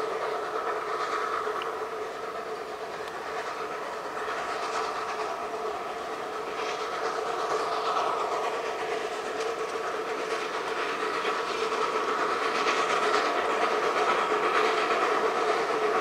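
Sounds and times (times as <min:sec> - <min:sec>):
distant steam locomotive rumbling: 0:00.0 - 0:16.0
exhaust steam hissing: 0:00.0 - 0:16.0.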